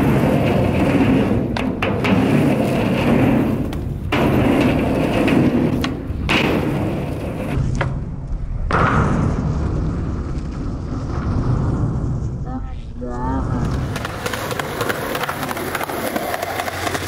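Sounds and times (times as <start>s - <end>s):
skateboard wheels rumbling on ramp: 0.0s - 12.4s, 13.4s - 17.0s.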